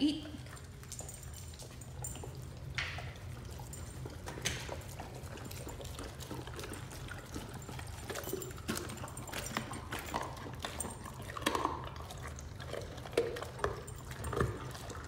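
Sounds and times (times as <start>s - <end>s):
dogs chewing and slurping: 0.0s - 15.0s.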